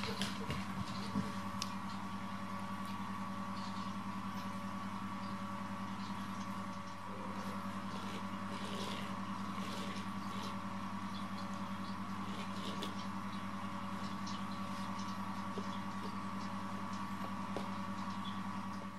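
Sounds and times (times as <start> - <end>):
small motor humming: 0.0 - 18.9.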